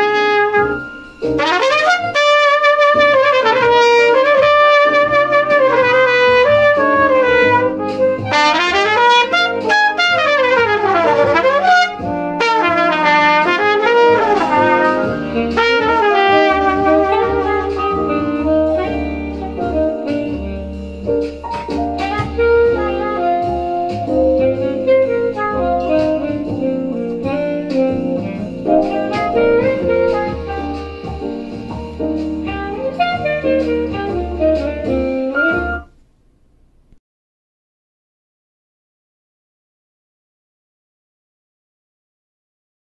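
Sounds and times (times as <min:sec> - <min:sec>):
jazz trumpet: 0:00.0 - 0:36.1
backing track with bass line: 0:00.0 - 0:37.0.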